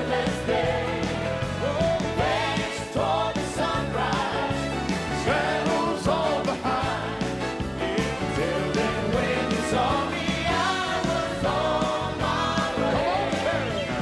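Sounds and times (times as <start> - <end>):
gospel band playing: 0.0 - 14.0
sliding lead melody: 0.0 - 14.0.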